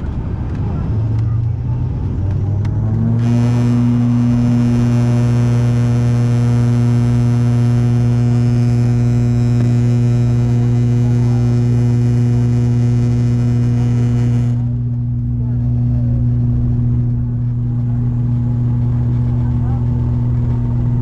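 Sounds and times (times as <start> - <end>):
turboprop engines droning: 0.0 - 21.0
engine hiss: 2.7 - 21.0.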